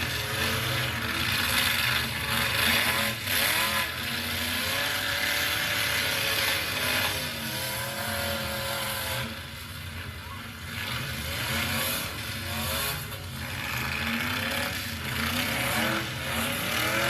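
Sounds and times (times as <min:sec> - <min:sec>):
truck engines revving: 0:00.0 - 0:17.0.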